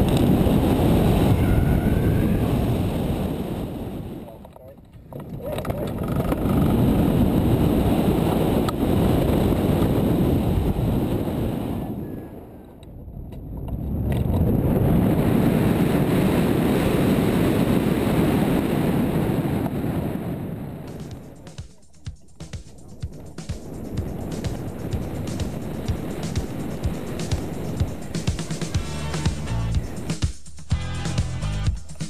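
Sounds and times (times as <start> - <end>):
wind rushing over microphone: 0.0 - 30.2.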